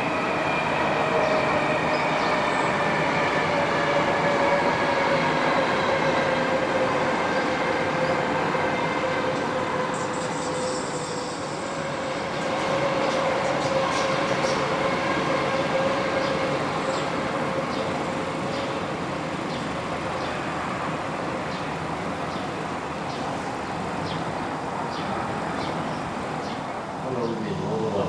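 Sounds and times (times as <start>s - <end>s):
electric train rolling past: 0.0s - 28.0s.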